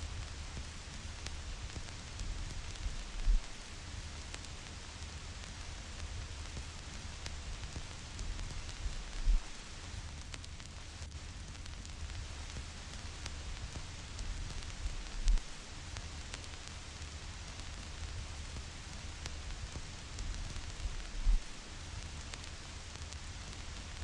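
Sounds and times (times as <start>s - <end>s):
vinyl record surface noise: 0.0s - 24.0s.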